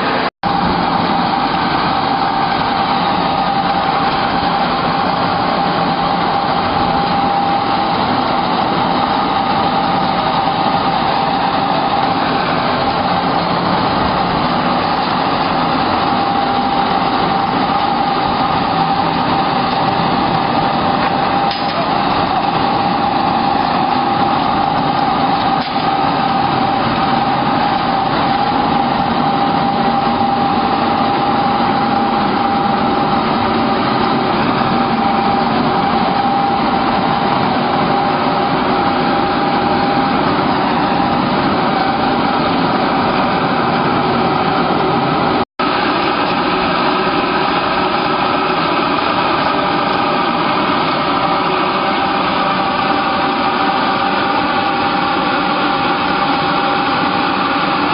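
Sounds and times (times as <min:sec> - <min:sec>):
machinery drone with high whine: 0:00.0 - 0:57.9.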